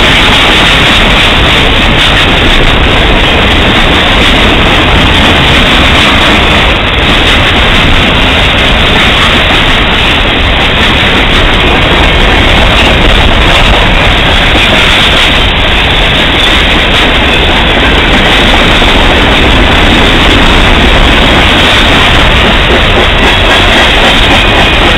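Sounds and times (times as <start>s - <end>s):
freight train wheels rumbling: 0.0s - 24.9s.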